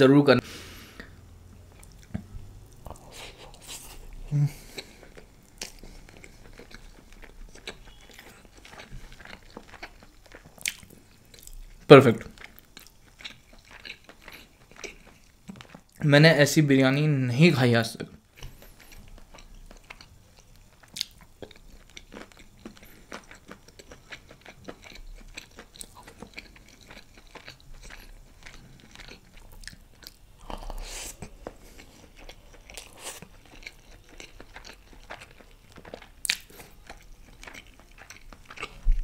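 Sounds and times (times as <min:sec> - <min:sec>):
wet chewing: 0:01.7 - 0:16.0, 0:18.1 - 0:39.0.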